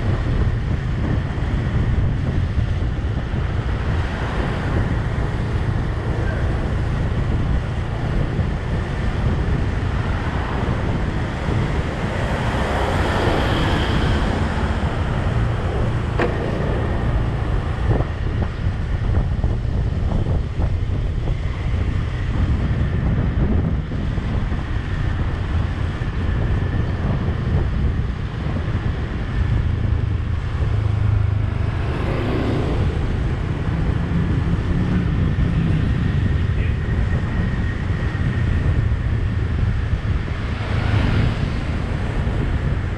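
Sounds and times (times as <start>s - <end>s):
vehicle driving rumble: 0.0s - 42.9s
vehicles passing: 0.0s - 42.9s
wind buffeting microphone: 0.0s - 42.9s.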